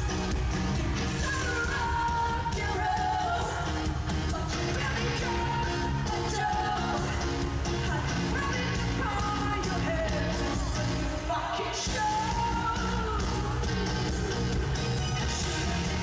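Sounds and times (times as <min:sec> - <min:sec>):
pop-rock band playing: 0:00.0 - 0:16.0
woman singing lead vocal: 0:00.0 - 0:16.0.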